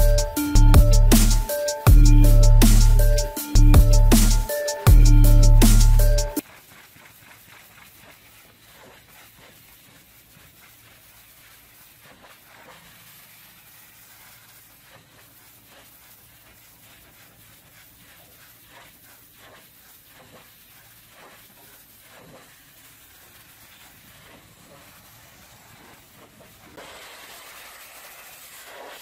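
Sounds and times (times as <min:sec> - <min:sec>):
pressure washer spraying metal: 0:00.0 - 0:29.0.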